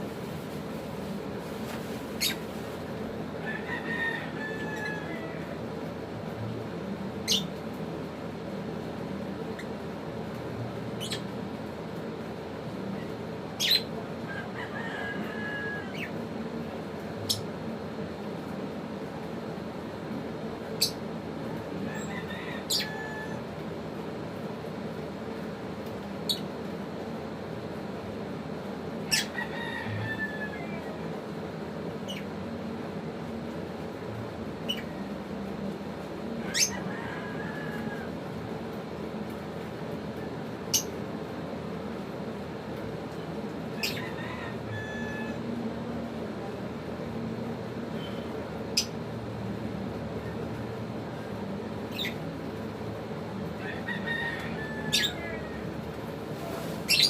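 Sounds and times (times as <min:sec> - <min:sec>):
low background noise: 0:00.0 - 0:57.0
steady low hum: 0:00.0 - 0:57.0.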